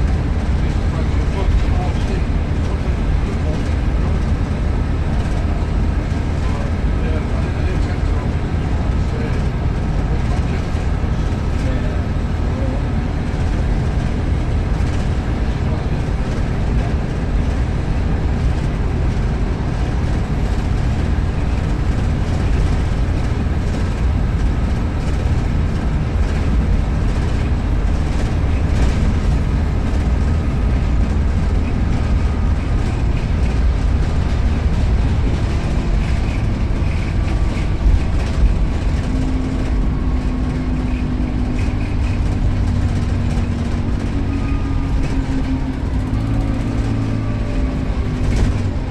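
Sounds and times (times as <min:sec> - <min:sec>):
bus diesel engine rumbling: 0:00.0 - 0:48.9.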